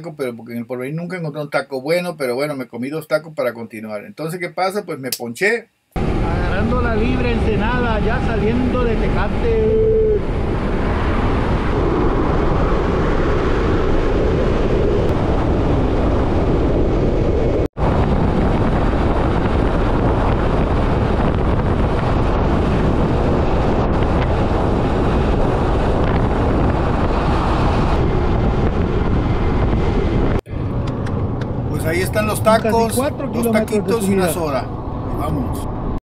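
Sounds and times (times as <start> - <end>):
wind buffeting microphone: 6.0 - 36.0.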